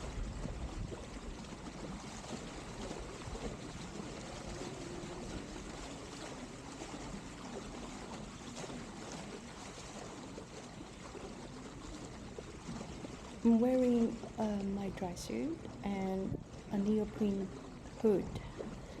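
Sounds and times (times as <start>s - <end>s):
water rushing along a boat hull: 0.0s - 19.0s.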